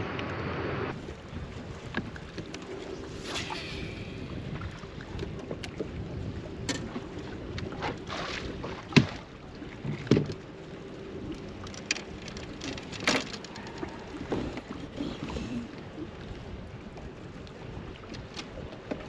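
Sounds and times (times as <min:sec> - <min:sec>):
water lapping around boat: 0:00.0 - 0:19.0
wind: 0:00.0 - 0:19.0
knocks and clunks on boat: 0:00.1 - 0:03.0, 0:04.3 - 0:19.0.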